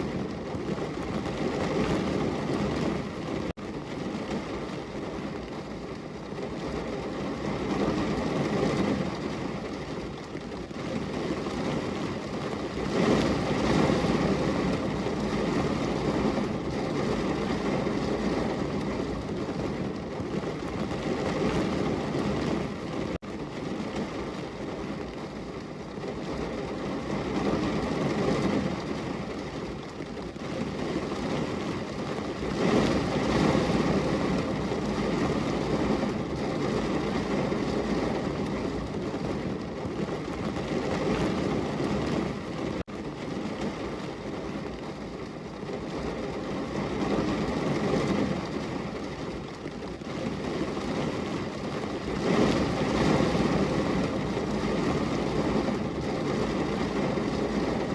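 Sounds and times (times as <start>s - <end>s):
heavy rain against a window: 0.0s - 57.9s.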